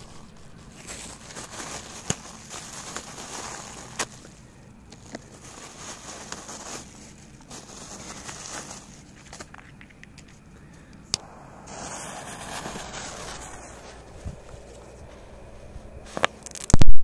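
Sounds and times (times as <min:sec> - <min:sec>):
plastic bag crinkling: 0:00.0 - 0:09.9, 0:12.4 - 0:16.9.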